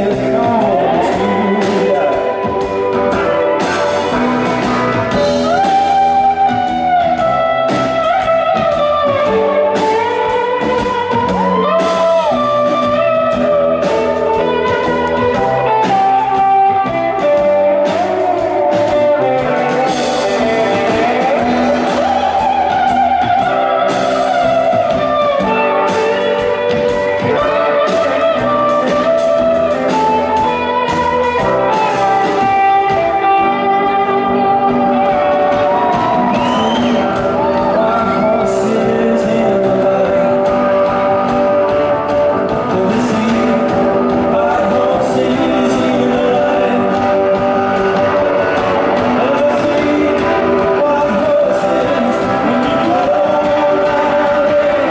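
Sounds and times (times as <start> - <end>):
live band instrumental music: 0.0 - 54.9.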